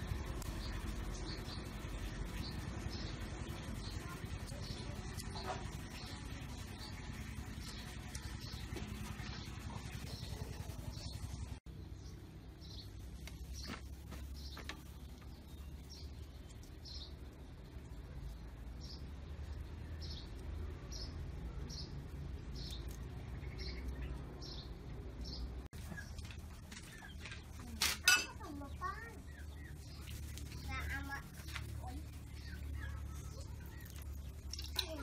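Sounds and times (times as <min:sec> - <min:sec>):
low steady rumble: 0:00.0 - 0:35.0
small bird chirping: 0:00.0 - 0:35.0.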